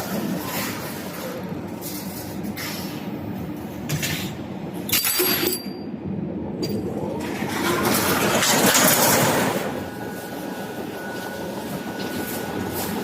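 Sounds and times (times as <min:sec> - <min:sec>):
production line machinery running: 0:00.0 - 0:13.0.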